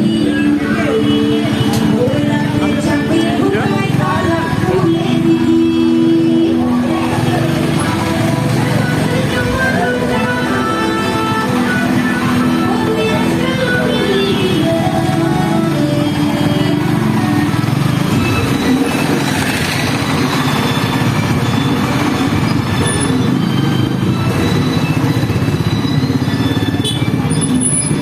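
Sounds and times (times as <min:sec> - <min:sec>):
busy street noise: 0:00.0 - 0:28.0
motorcycle engine running: 0:00.0 - 0:28.0.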